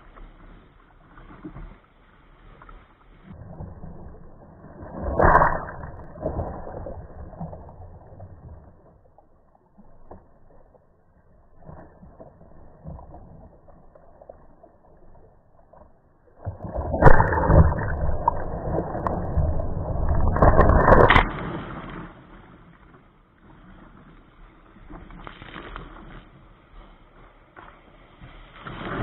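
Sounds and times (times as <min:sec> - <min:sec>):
water splashing over kayak: 0:00.0 - 0:29.0
waves: 0:00.0 - 0:29.0
wind: 0:00.0 - 0:29.0.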